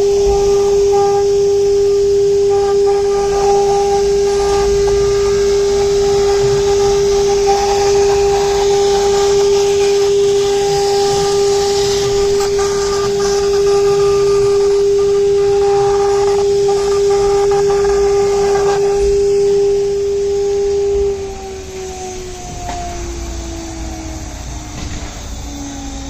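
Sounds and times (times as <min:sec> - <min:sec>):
hiss: 0:00.0 - 0:26.0
router spindle high whine: 0:00.0 - 0:26.0.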